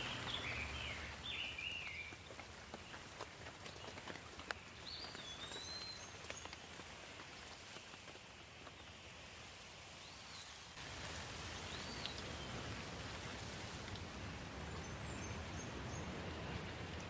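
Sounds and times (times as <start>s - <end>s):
light rain: 0.0s - 17.0s.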